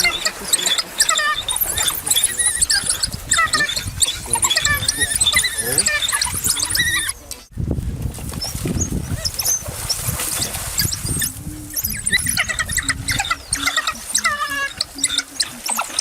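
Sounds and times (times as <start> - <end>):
animal squeals and chirps: 0.0 - 7.2, 9.2 - 16.0.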